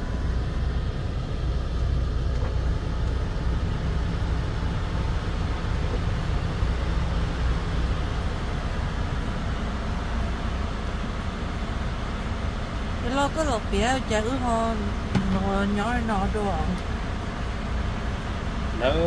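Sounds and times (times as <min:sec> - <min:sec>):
road noise: 0:00.0 - 0:19.0
truck engine rumbling: 0:00.0 - 0:19.0.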